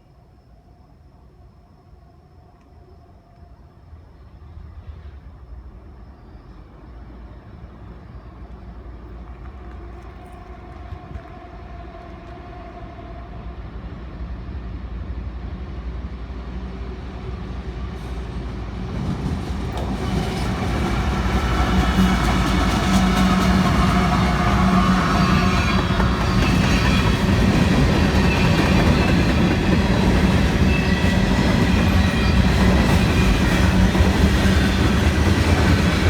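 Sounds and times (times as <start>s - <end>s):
diesel locomotive engine rumble: 4.3s - 36.0s.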